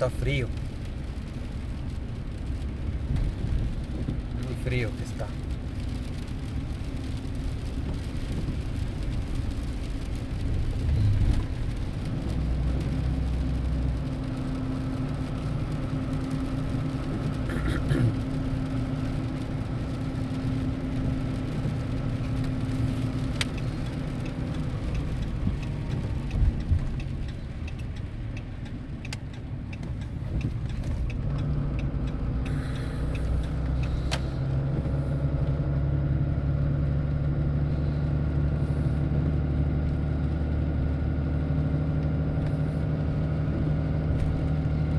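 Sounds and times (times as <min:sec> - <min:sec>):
car engine hum: 0:00.0 - 0:44.9
tyre and road noise: 0:00.0 - 0:44.9.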